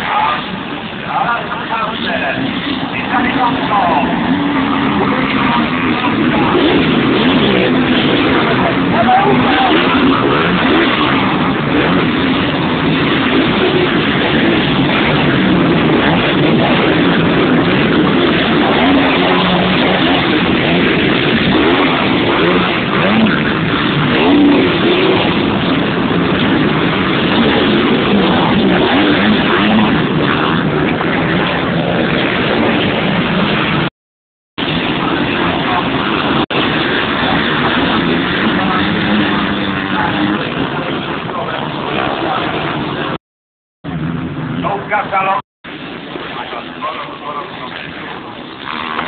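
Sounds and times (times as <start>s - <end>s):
motocross bikes revving: 0.0s - 33.9s, 34.6s - 43.2s, 43.9s - 49.0s.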